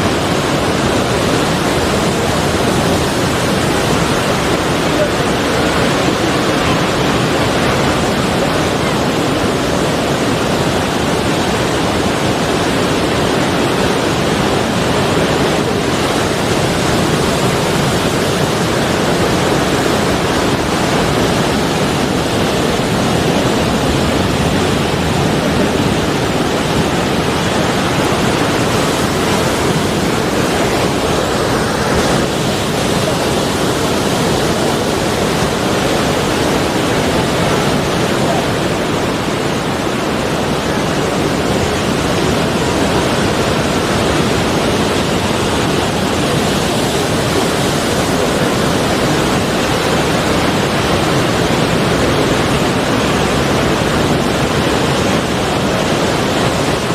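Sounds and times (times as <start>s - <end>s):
sea waves washing on shore: 0.0s - 56.9s.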